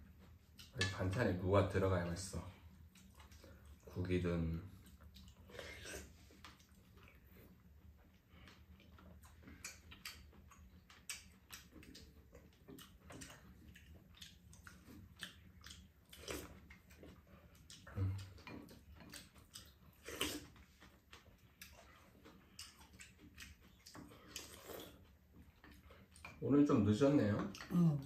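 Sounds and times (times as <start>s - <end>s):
people chewing: 0.0s - 28.0s.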